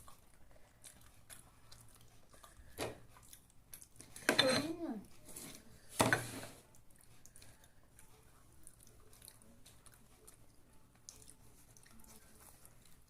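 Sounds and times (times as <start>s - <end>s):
faint chewing: 0.0s - 4.3s, 6.6s - 13.0s.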